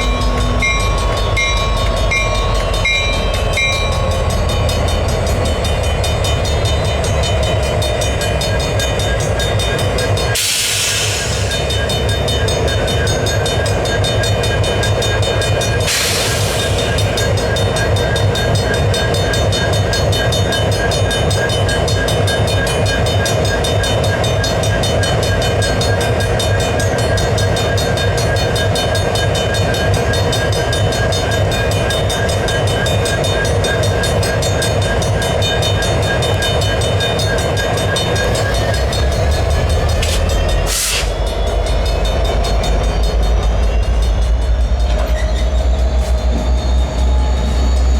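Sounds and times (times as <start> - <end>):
crossing bell ringing: 0.0 - 47.9
locomotive engine rumble: 0.0 - 47.9.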